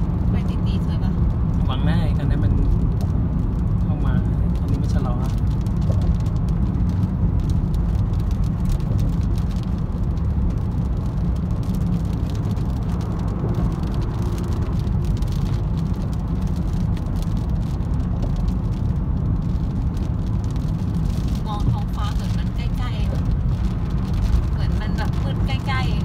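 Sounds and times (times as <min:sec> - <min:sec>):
raindrops ticking on windshield: 0:00.0 - 0:26.0
road and engine noise in car: 0:00.0 - 0:26.0.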